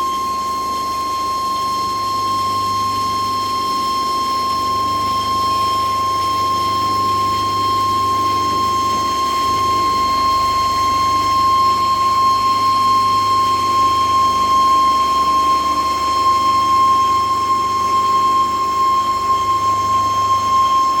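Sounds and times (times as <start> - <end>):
machine whine over low hum: 0.0 - 21.0.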